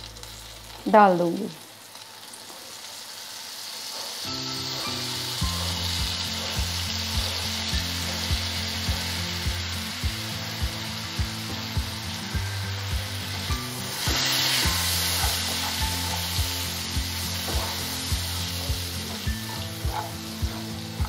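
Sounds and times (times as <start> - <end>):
oil sizzling in a frying pan: 0.0 - 21.0.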